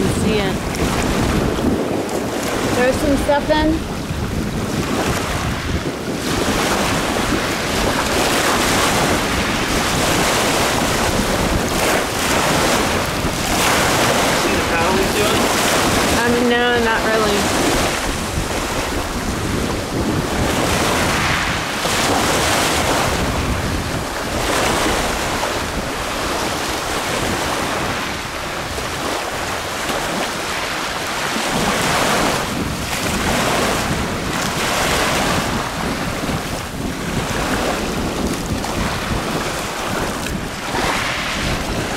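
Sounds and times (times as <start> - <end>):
ocean surf washing in: 0.0 - 41.9
wind buffeting microphone: 0.0 - 41.9.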